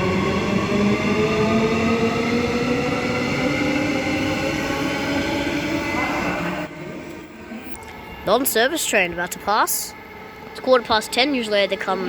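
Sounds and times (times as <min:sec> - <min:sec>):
rail running noise: 0:00.0 - 0:12.0.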